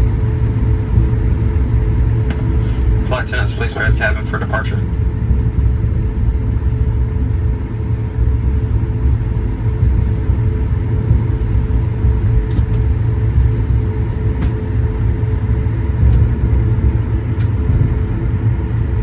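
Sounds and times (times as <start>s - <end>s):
airplane cabin rumble: 0.0s - 19.0s
steady engine hum: 0.0s - 19.0s.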